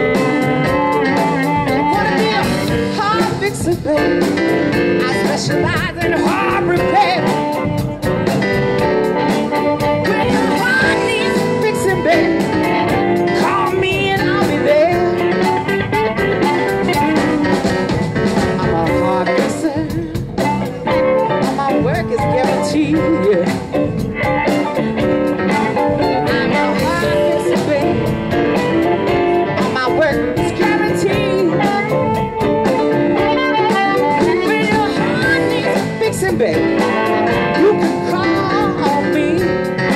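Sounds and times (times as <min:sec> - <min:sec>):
bass: 0:00.0 - 0:39.9
drums: 0:00.0 - 0:39.9
electric guitar: 0:00.0 - 0:39.9
keyboard: 0:00.0 - 0:39.9.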